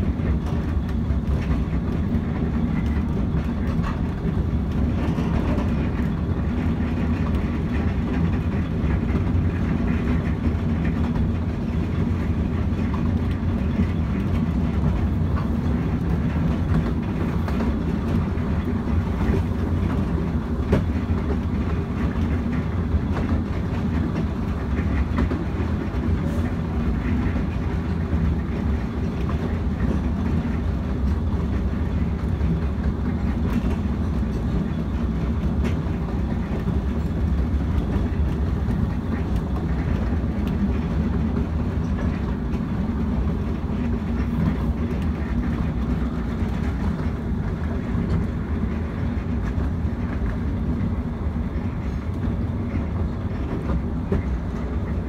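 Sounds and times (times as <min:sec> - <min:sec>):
faint clicks from rails: 0:00.0 - 0:55.0
rumble of train wheels on track: 0:00.0 - 0:55.0.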